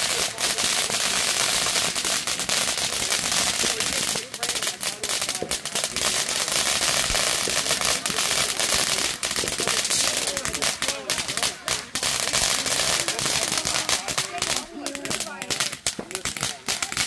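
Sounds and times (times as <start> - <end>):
fireworks sparks hissing: 0.0 - 17.0
rapid crackling pops: 0.0 - 17.0.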